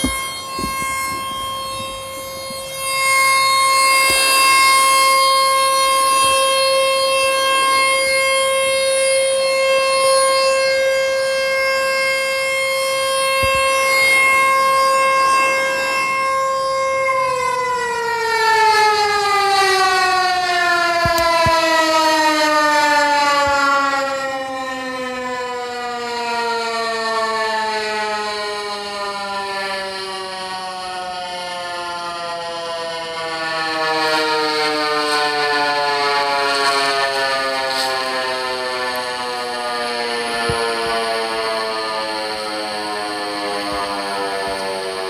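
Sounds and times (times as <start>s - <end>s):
tornado siren winding down: 0.0s - 45.0s.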